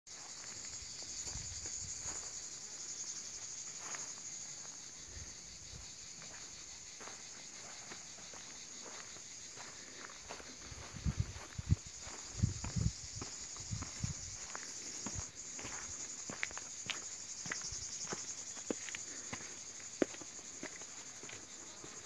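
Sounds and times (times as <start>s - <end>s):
high-pitched insect chorus: 0.1s - 22.0s.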